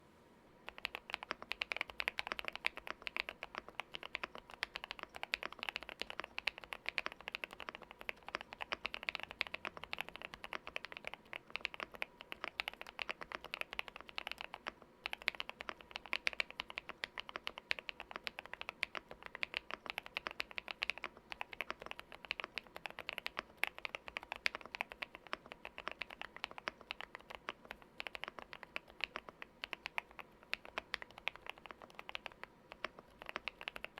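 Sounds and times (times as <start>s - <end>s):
fast typing on mechanical keyboard: 0.7s - 33.9s.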